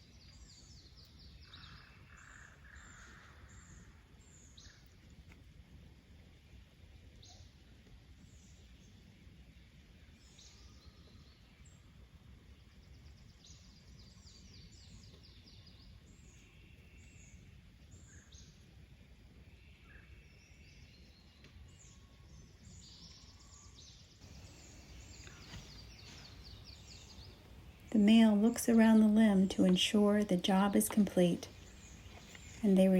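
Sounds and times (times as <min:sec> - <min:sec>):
small birds chirping and trilling: 0:00.0 - 0:05.0, 0:10.1 - 0:18.6, 0:19.5 - 0:32.9
low steady background rumble: 0:00.0 - 0:32.9.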